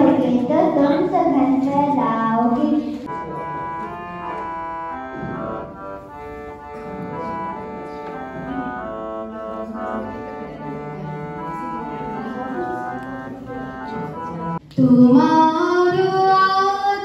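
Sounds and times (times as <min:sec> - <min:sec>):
electronic keyboard melody: 0:00.0 - 0:14.6.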